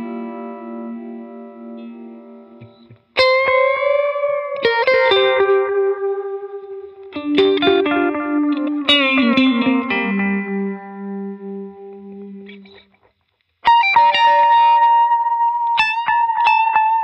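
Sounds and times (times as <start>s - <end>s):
electric guitar through effects: 0.0s - 17.0s.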